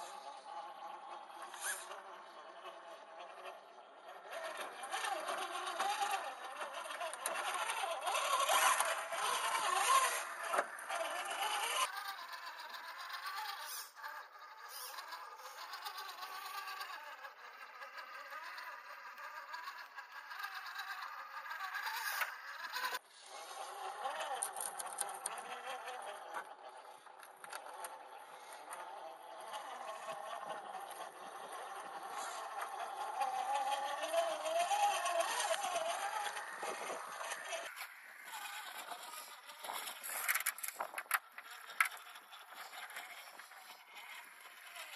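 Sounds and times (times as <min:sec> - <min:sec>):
rc crawler motor whining: 0:00.0 - 0:44.9.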